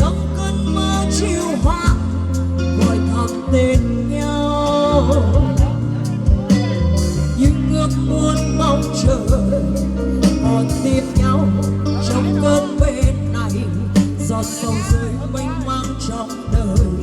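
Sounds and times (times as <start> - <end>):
backing track with bass and drums: 0.0 - 17.0
woman singing a slow pop song: 0.0 - 17.0.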